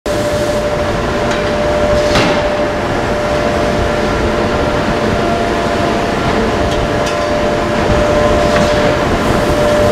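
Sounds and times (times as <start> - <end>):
forge machinery drone: 0.1 - 9.9
steady hum: 0.1 - 9.9.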